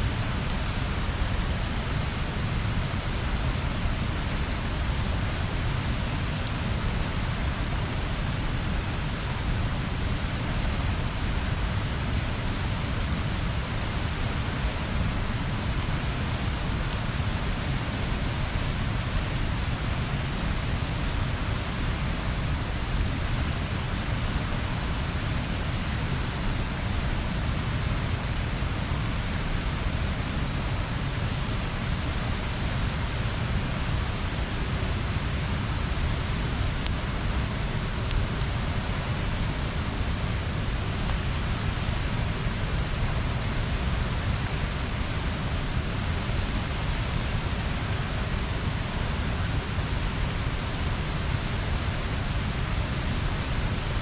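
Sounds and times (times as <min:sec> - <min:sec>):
bonfire hissing and rumbling: 0:00.0 - 0:54.0
fire popping: 0:00.0 - 0:54.0.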